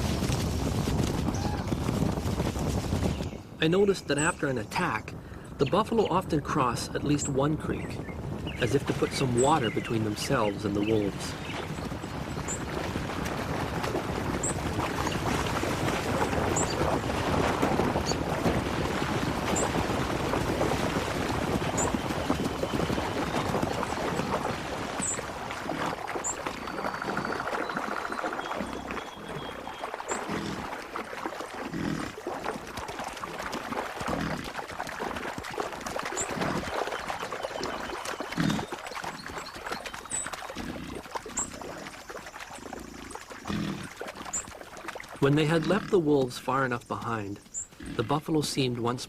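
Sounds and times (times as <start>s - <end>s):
animal splashing through water: 0.0s - 3.2s, 8.6s - 48.2s.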